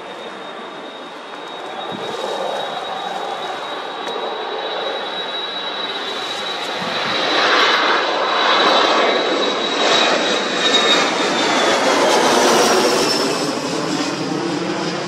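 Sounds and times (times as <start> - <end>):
high jet engine whine: 0.0 - 15.0
jet engines roaring overhead: 0.0 - 15.0.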